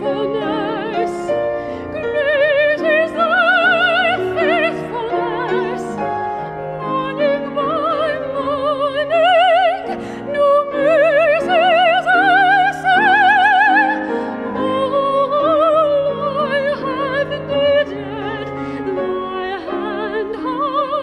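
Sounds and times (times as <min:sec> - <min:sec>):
grand piano: 0:00.0 - 0:21.0
woman singing with vibrato: 0:00.0 - 0:21.0.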